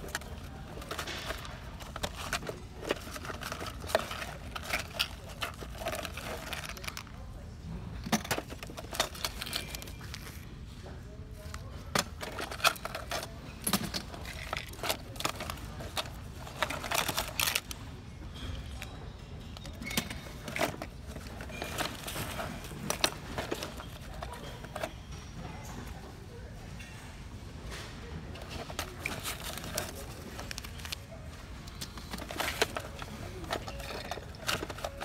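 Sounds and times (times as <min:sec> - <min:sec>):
fishing tackle rattling in metal box: 0:00.0 - 0:07.2, 0:08.0 - 0:10.4, 0:11.4 - 0:25.0, 0:28.3 - 0:35.0.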